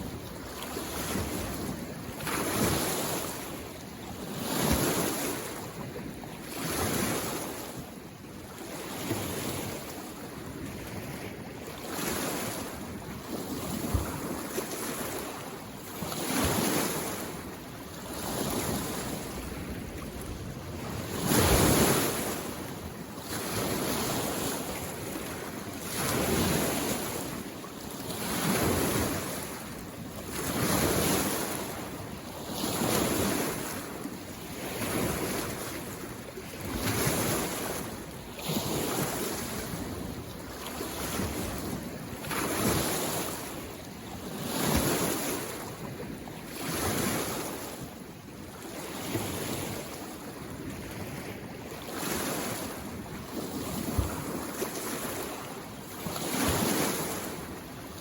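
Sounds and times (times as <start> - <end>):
lake waves washing on shore: 0.0 - 58.0.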